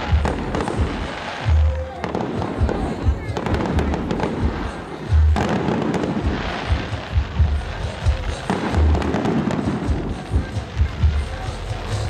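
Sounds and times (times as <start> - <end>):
fireworks popping and crackling: 0.0 - 12.0
heavy firework bangs: 0.0 - 12.0.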